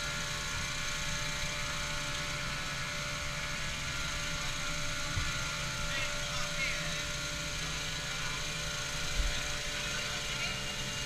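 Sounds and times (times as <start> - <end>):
vehicle engine drone: 0.0 - 11.0.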